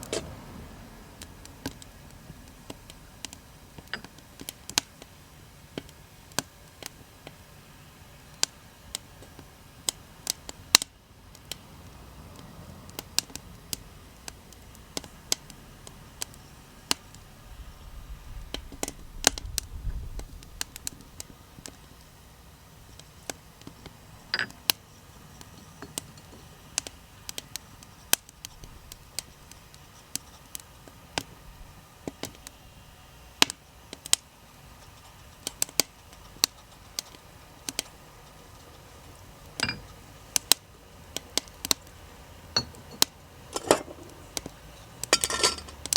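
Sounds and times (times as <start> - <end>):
wood fire crackling and popping: 1.0 - 17.8, 18.4 - 45.9.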